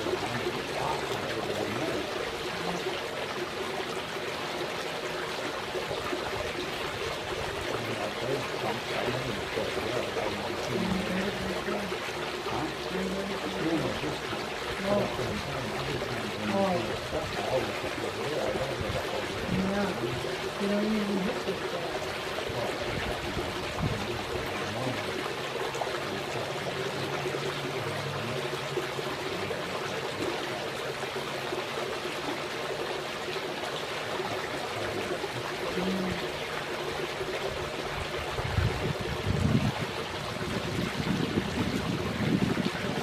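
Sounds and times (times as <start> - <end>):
running water trickling: 0.0 - 43.0.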